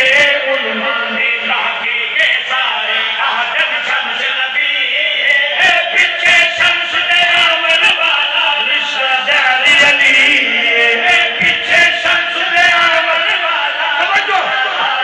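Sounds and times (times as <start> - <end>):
men chanting through microphone: 0.0 - 15.0.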